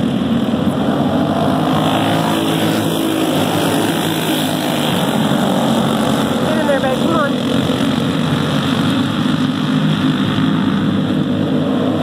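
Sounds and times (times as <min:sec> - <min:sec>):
racing kart engines: 0:00.0 - 0:12.0.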